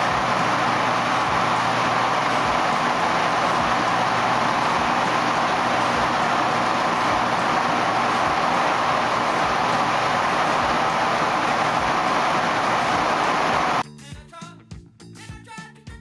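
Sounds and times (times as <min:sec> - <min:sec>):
washing machines running: 0:00.0 - 0:13.8.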